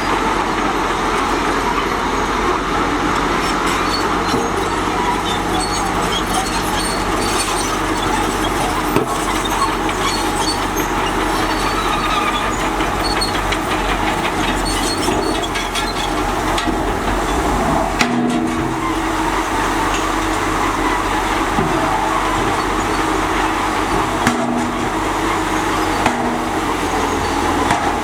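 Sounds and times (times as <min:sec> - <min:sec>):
bulldozer diesel engine: 0:00.0 - 0:28.0
steel tracks clanking: 0:00.0 - 0:28.0.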